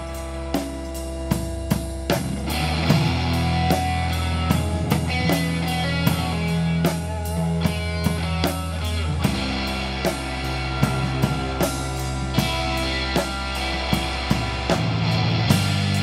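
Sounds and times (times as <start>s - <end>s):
drum kit beat: 0.0s - 16.0s
guitar: 0.0s - 16.0s
low bass notes: 0.0s - 16.0s.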